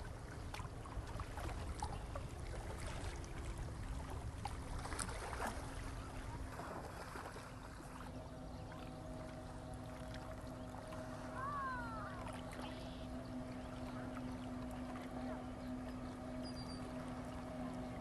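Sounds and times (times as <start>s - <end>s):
seawater splashing and lapping: 0.0s - 18.0s.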